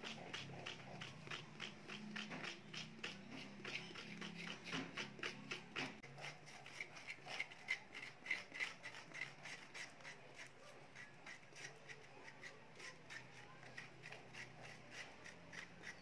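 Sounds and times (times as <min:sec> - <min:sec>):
spoons scraping banana peels: 0:00.0 - 0:16.0.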